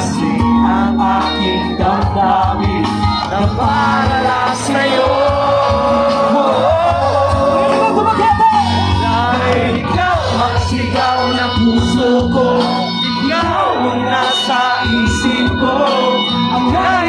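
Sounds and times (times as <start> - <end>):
amplified pop love song: 0.0 - 17.0
crowd shouting: 0.0 - 17.0.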